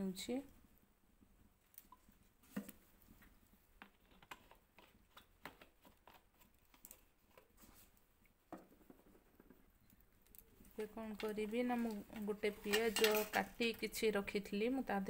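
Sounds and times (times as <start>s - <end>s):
wood fire crackling: 0.4s - 14.5s.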